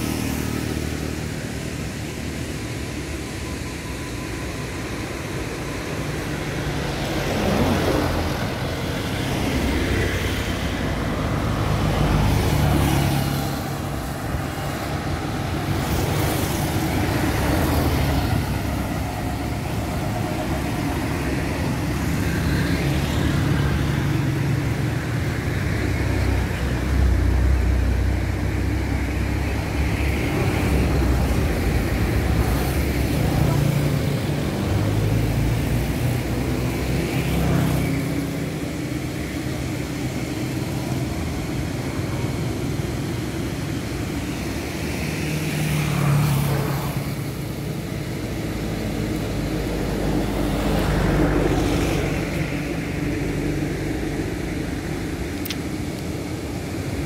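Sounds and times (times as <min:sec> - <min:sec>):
trucks and cars passing: 0:00.0 - 0:57.0.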